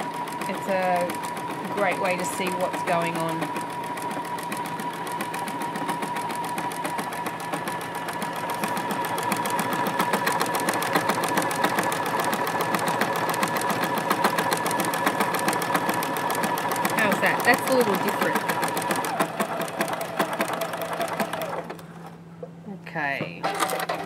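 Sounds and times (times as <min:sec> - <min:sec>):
sewing machine stitching: 0:00.0 - 0:22.1, 0:23.4 - 0:24.0.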